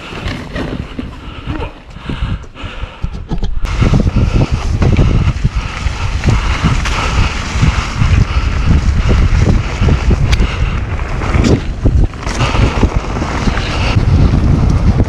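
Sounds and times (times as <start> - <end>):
bike knocking and rattling: 0.0 - 15.0
wind buffeting microphone: 0.0 - 15.0.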